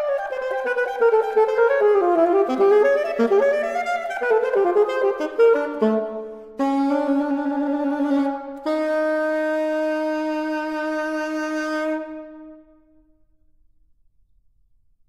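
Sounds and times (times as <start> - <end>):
alto saxophone playing: 0.0 - 13.1.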